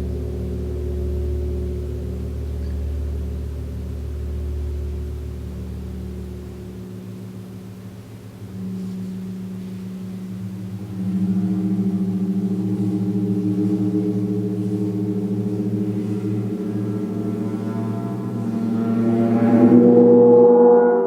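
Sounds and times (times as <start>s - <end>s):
large gong humming: 0.0s - 21.0s.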